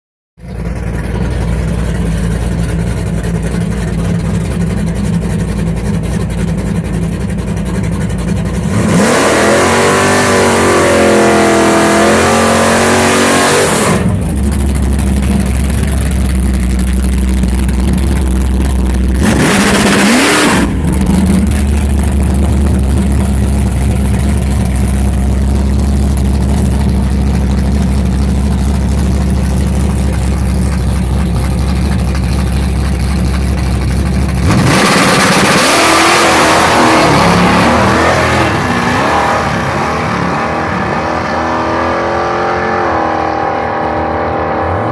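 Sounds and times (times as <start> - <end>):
misfiring engine idling and revving: 0.4 - 44.9.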